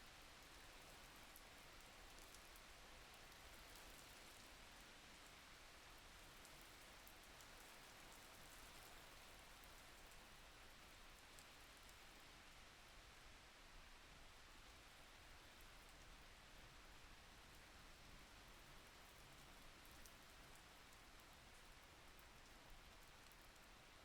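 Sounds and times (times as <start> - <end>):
faint steady rain: 0.0 - 24.0.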